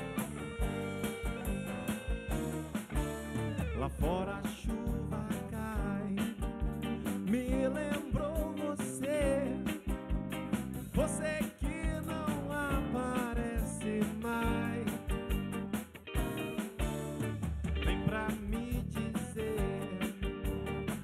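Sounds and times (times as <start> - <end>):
drum kit: 0.0 - 21.0
electric bass: 0.0 - 21.0
guitars: 0.0 - 21.0.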